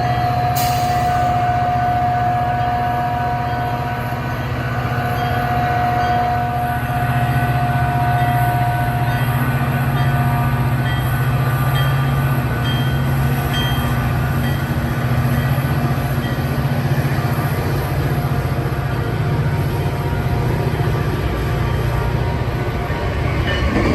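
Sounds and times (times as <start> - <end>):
diesel train rumbling: 0.0 - 23.9.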